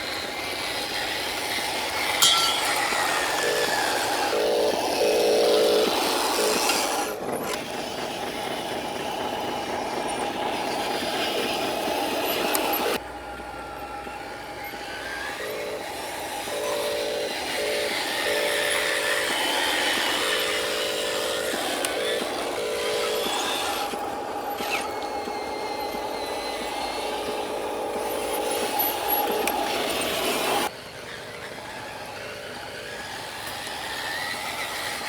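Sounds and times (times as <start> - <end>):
dense noisy background: 0.0 - 35.0
toy truck motor and gears whirring: 0.0 - 35.0.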